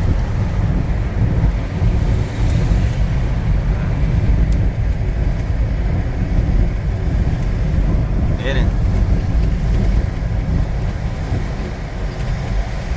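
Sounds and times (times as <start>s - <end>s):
gusty wind buffeting microphone: 0.0s - 12.9s.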